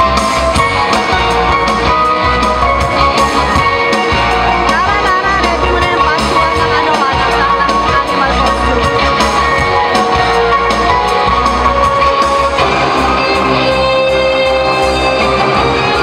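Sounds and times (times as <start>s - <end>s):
guitar music over loudspeakers: 0.0s - 16.0s.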